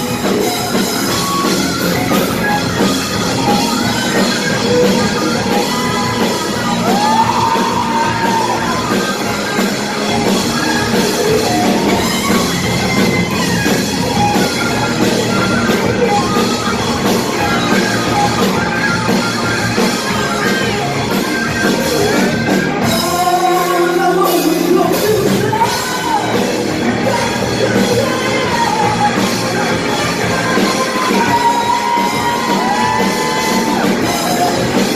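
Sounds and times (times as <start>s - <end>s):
rock band playing live: 0.0s - 34.9s
person singing and yelling: 0.3s - 34.9s.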